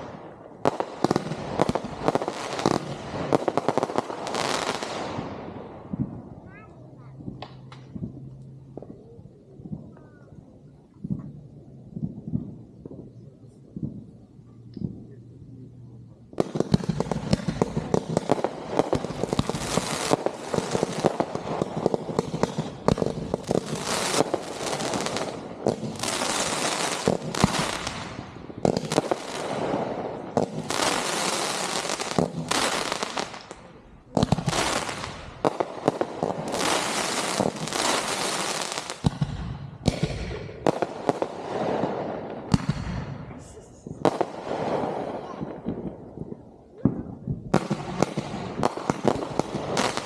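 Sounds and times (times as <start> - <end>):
fireworks bangs: 0.0 - 15.3, 16.2 - 50.0.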